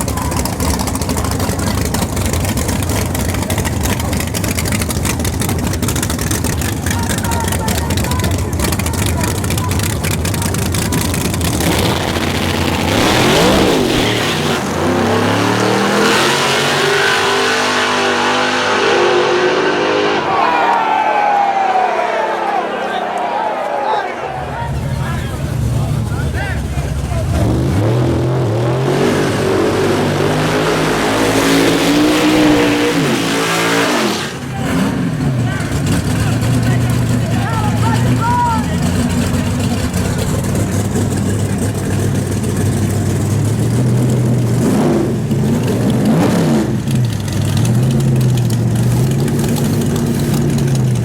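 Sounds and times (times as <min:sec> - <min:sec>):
drag racing car engine: 0:00.0 - 0:21.9, 0:24.2 - 0:51.0.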